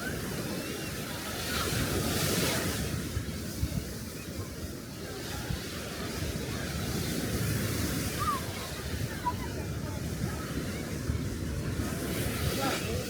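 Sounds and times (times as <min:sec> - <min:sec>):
small waves breaking on beach: 0:00.0 - 0:13.0
wind buffeting microphone: 0:00.0 - 0:13.0.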